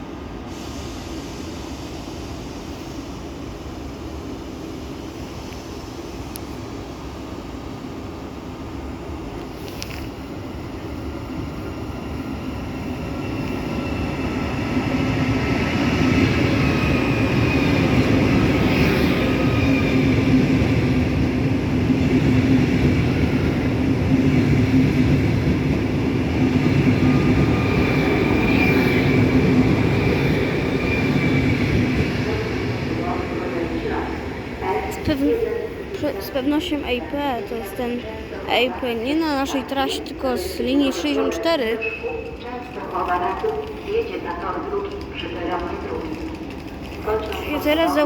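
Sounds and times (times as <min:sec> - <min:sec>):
train passing rumble: 0:00.0 - 0:48.0.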